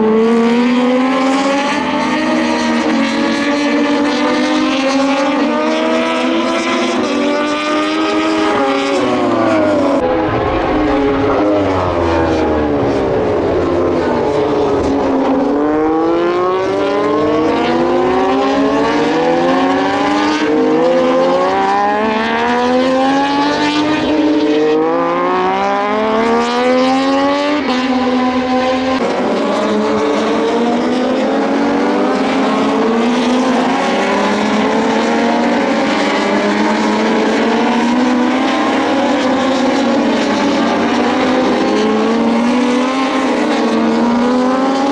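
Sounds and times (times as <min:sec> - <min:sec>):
racing motorcycles accelerating: 0:00.0 - 0:44.9.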